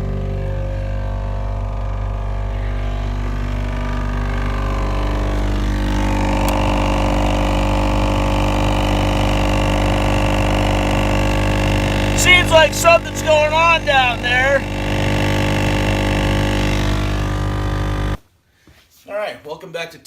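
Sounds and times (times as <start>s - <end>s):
blower fan humming and whirring: 0.0s - 18.2s.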